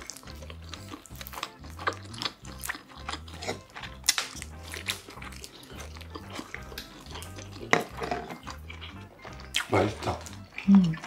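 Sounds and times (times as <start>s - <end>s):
background music with low beat: 0.0s - 11.0s
biting food: 0.0s - 11.0s
wet chewing: 0.0s - 11.0s.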